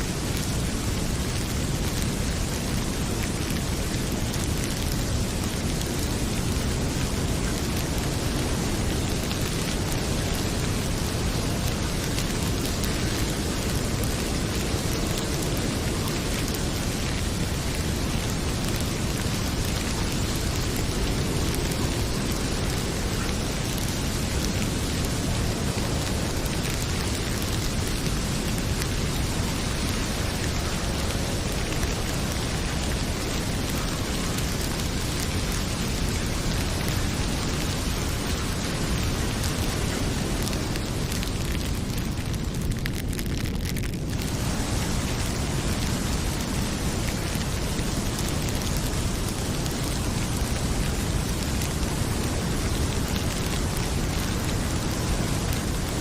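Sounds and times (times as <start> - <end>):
heavy rain pouring: 0.0 - 56.0
wood fire crackling: 0.0 - 56.0.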